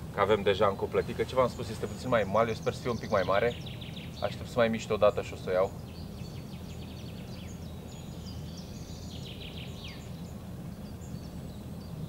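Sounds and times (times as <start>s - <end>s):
low background rumble: 0.0s - 12.0s
small birds chirping and trilling: 0.0s - 12.0s.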